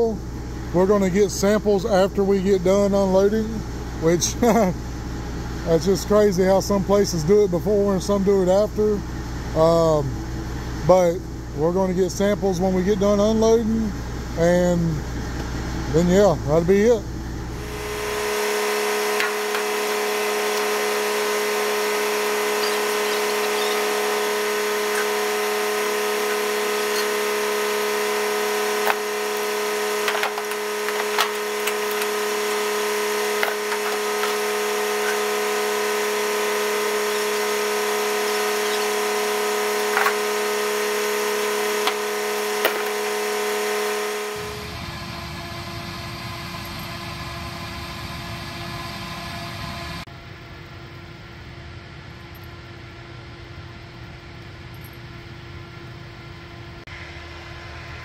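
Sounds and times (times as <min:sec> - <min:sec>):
transfer pump whining: 0:00.0 - 0:51.1.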